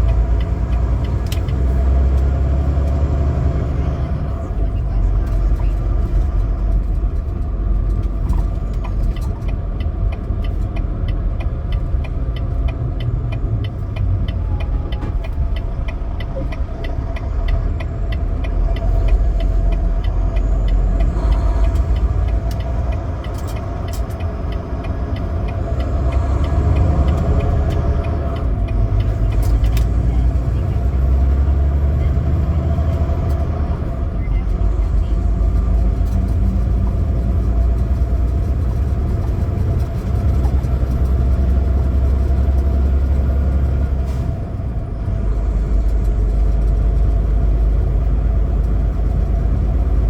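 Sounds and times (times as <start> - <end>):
truck engine and road rumble: 0.0 - 50.0.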